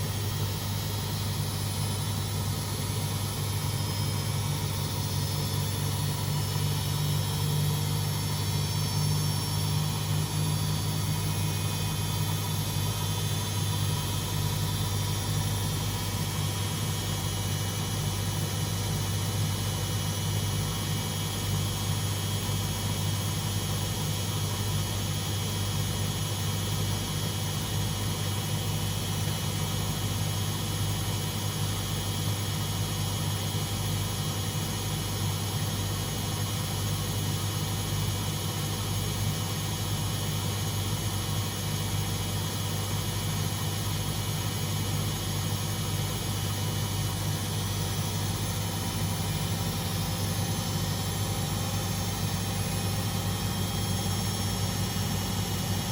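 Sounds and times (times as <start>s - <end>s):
washing machine droning: 0.0s - 55.9s.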